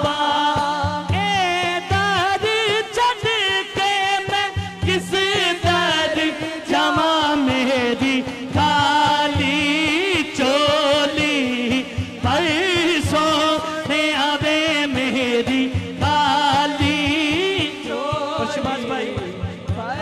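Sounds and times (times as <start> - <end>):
man singing ornamented melody: 0.0 - 20.0.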